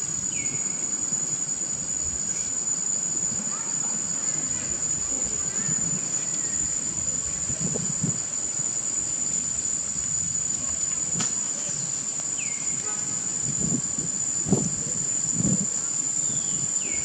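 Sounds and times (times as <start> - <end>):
insects droning high-pitched: 0.0 - 17.0
low outdoor background: 0.0 - 17.0.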